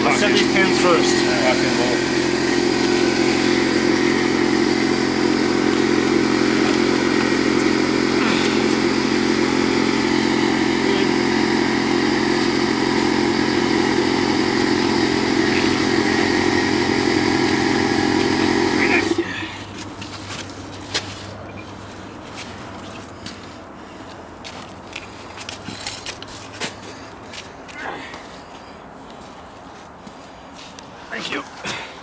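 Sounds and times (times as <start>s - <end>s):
small engine droning steadily: 0.0s - 32.0s.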